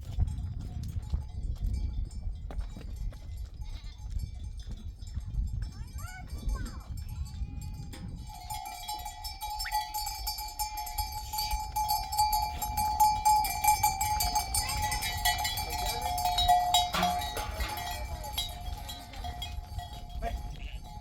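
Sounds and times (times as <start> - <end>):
sheep bells clinking: 0.0 - 21.0.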